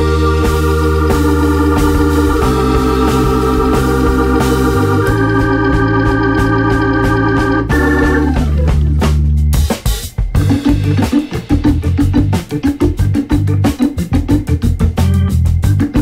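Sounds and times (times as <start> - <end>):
organ-like chords: 0.0 - 16.0.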